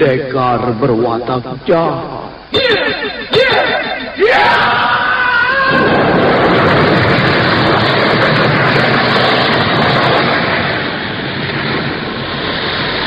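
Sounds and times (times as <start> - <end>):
loud steady rushing noise: 0.0 - 13.0.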